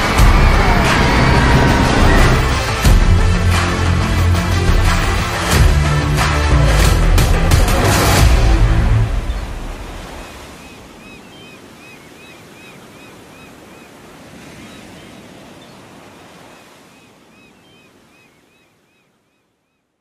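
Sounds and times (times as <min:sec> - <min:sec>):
ocean surf washing: 0:00.0 - 0:18.4.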